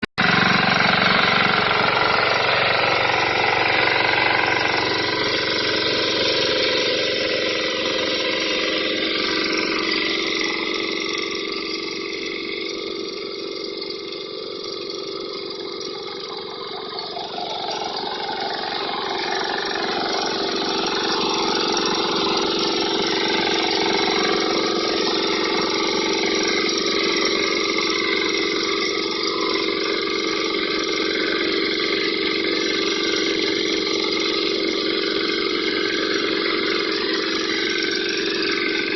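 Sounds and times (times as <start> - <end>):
power tiller engine running: 0.0 - 38.9.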